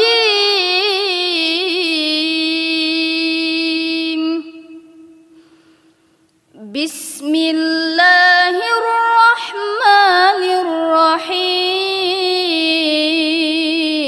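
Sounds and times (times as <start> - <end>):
boy chanting recitation: 0.0 - 4.9, 6.6 - 14.0.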